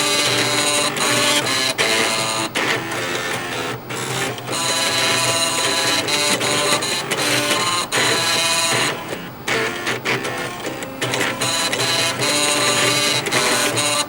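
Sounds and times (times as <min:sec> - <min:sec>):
floppy disk drives playing melody: 0:00.0 - 0:14.0.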